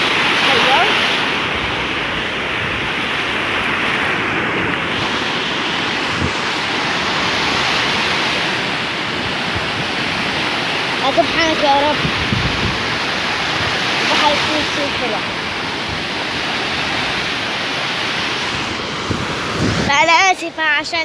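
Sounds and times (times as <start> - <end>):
sea waves washing on shore: 0.0 - 21.0
wind buffeting microphone: 0.0 - 21.0.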